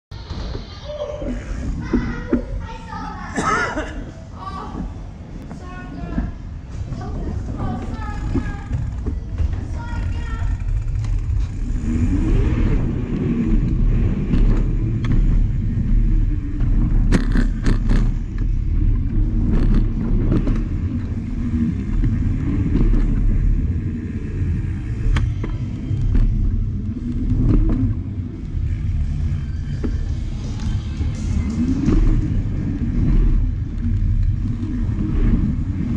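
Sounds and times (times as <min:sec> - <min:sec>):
bicycle tyres rumbling: 0:00.1 - 0:35.9
bike knocking and rattling: 0:04.7 - 0:35.9.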